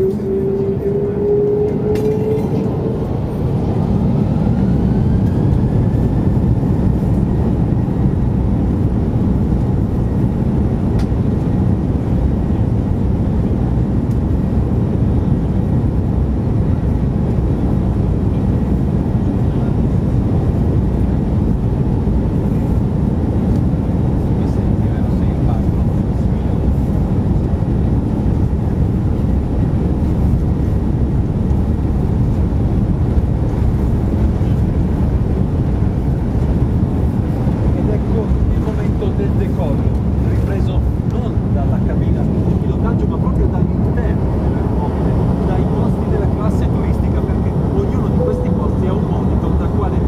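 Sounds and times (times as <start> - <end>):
engines and wheels rumbling: 0.0 - 50.0
jet engine whine: 0.0 - 50.0.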